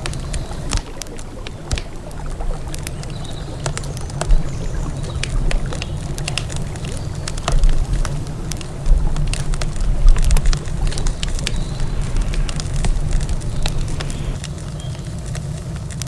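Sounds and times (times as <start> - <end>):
campfire crackling: 0.0 - 16.0
river rumble: 0.0 - 16.0.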